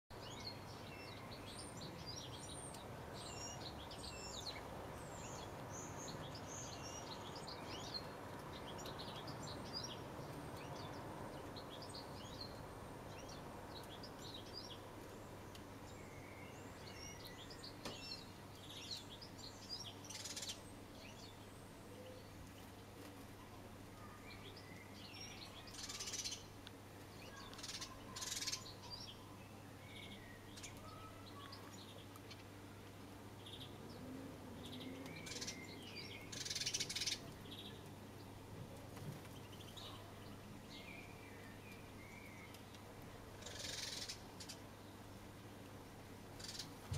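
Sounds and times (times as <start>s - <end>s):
small songbirds chirping: 0.1s - 46.9s.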